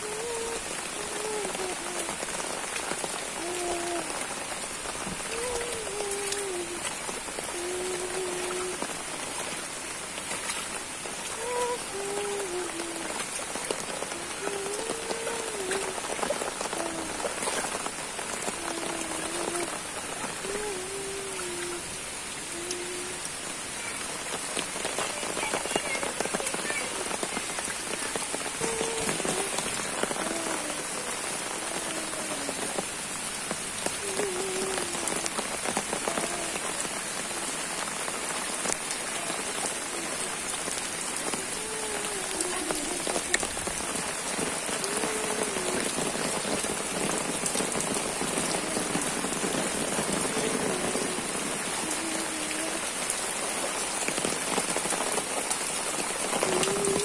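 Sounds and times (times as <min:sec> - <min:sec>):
rain falling into puddles: 0:00.0 - 0:57.0.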